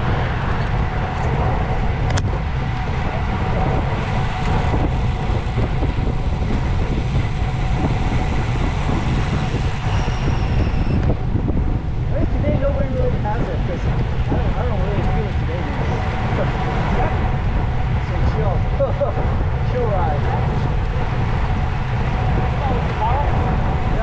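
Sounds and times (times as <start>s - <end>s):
tyres and car traffic: 0.0s - 24.0s
wind rushing over microphone: 0.0s - 24.0s.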